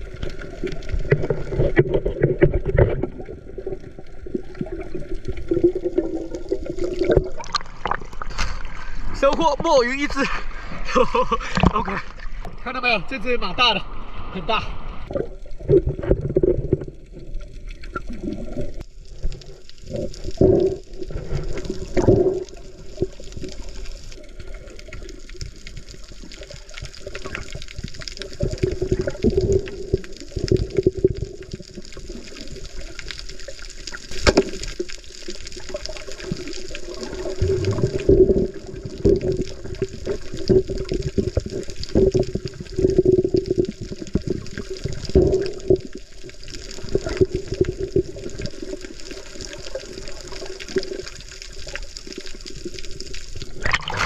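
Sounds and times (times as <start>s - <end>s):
underwater water swishing: 0.0s - 54.0s.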